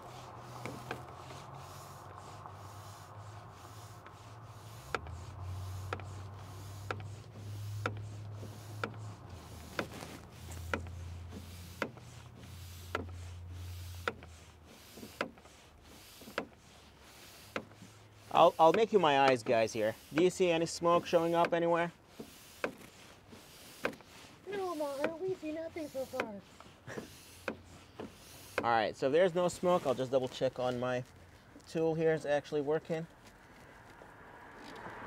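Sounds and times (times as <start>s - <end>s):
small air pump humming: 0.0s - 33.0s.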